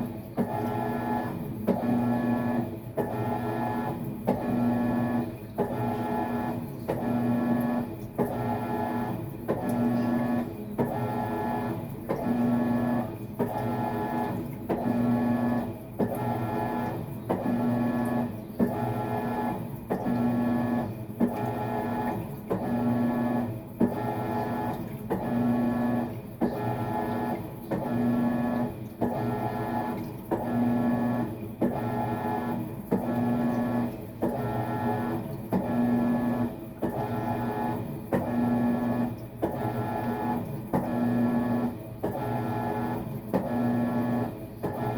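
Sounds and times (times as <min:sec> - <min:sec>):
washing machine agitating: 0:00.0 - 0:44.9.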